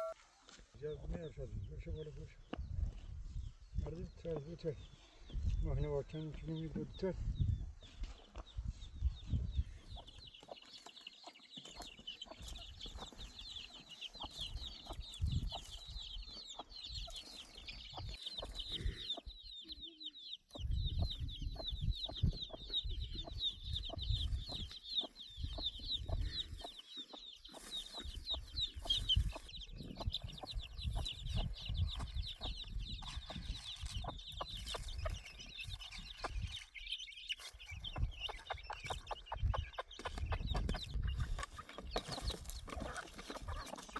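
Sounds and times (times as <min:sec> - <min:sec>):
chicks cheeping: 0:00.0 - 0:43.9.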